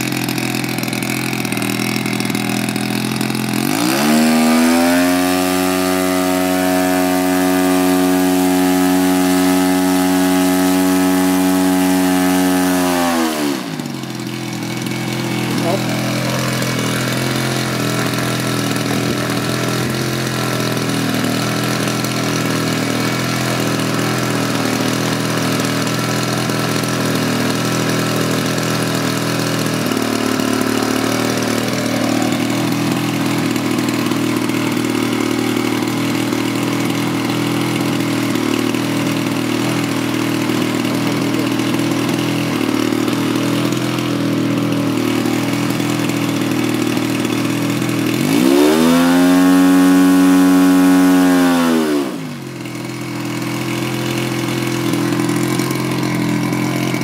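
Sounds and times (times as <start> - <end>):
model plane engine running: 0.0 - 57.0.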